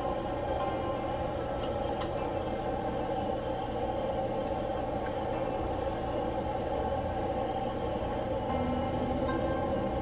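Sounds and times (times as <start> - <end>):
gas burner roaring: 0.0 - 10.0.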